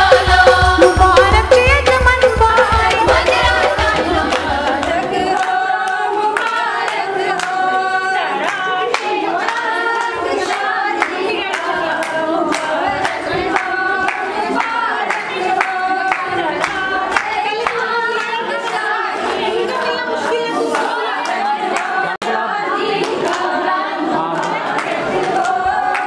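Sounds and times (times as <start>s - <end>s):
hands clapping rhythmically: 0.0s - 26.0s
women singing together: 0.0s - 26.0s.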